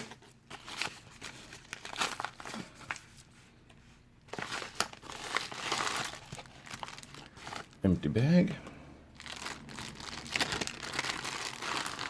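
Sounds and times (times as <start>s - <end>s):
packaging crinkling: 0.0s - 3.3s, 4.3s - 7.8s, 9.1s - 12.0s.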